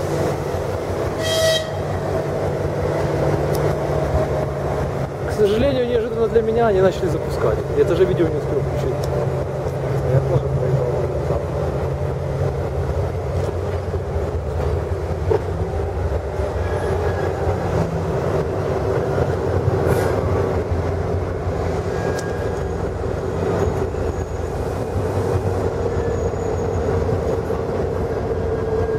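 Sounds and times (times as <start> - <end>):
diesel locomotive engine running: 0.0 - 28.9.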